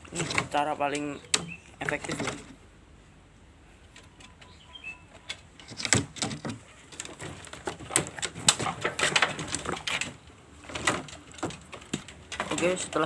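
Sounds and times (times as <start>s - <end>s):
small bird noises: 0.0s - 13.0s.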